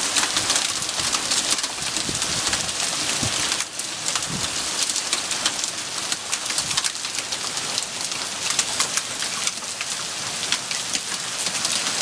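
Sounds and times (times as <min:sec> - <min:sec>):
hail pelting surfaces: 0:00.0 - 0:12.0.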